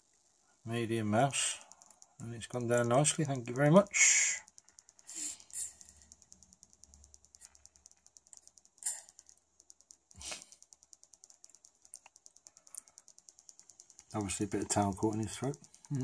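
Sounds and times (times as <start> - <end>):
faint rapid ticking: 0.0 - 16.0.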